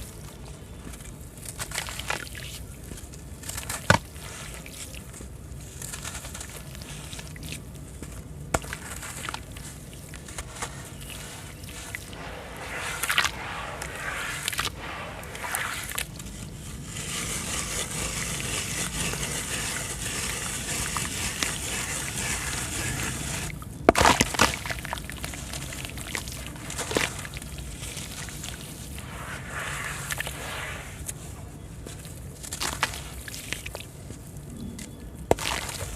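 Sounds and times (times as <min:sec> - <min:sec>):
sand cement crumbling in water: 0:01.3 - 0:31.2, 0:31.9 - 0:34.0, 0:35.3 - 0:35.9.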